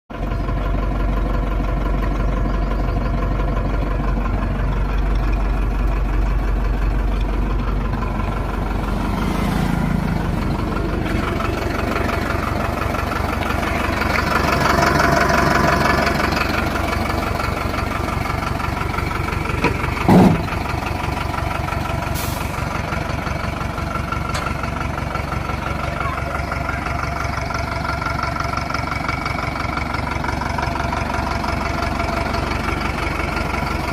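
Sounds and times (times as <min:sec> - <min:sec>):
truck engine idling: 0:00.1 - 0:33.9.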